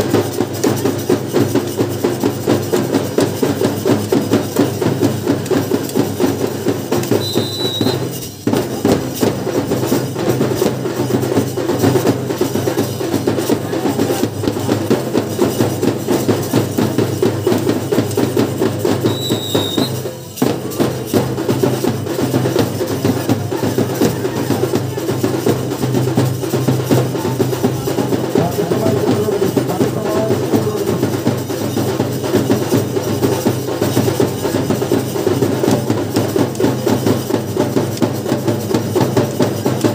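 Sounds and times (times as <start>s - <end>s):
rapid drumming: 0.0s - 39.9s.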